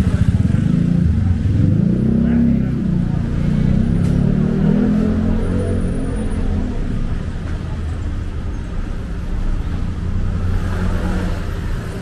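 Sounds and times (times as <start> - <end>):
motor vehicles rumbling: 0.0 - 12.0.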